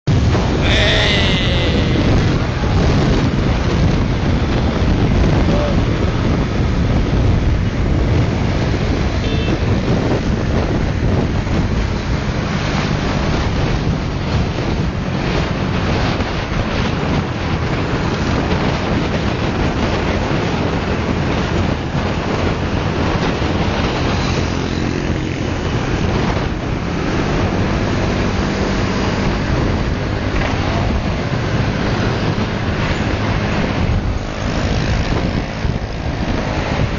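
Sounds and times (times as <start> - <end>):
motorcycle engine humming: 0.1 - 36.9
wind buffeting microphone: 0.1 - 36.9.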